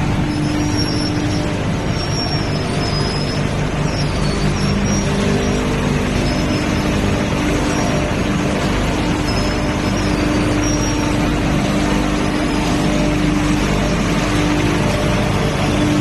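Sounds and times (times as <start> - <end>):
industrial machinery running: 0.0 - 16.0.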